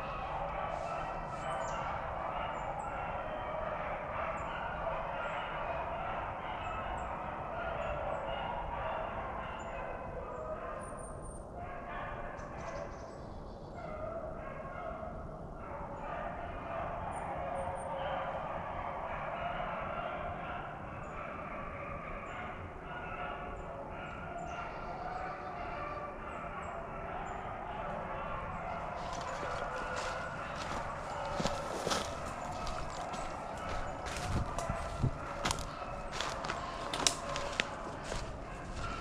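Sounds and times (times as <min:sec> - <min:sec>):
hounds baying: 0:00.0 - 0:13.1, 0:13.8 - 0:39.0.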